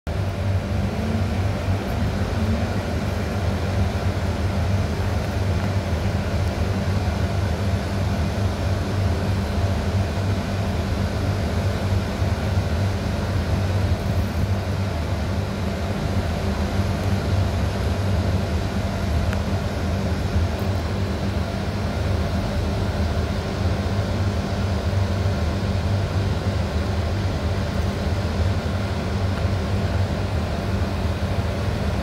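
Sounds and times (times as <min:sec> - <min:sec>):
machinery humming: 0:00.1 - 0:32.0.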